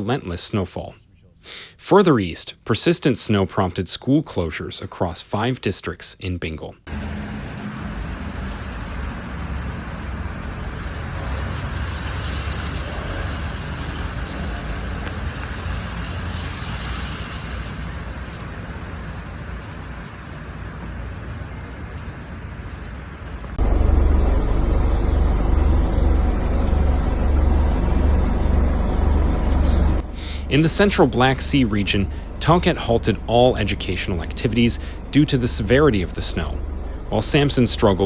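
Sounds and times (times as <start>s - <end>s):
heavy low rumble: 6.9s - 38.0s
road traffic hiss: 6.9s - 38.0s.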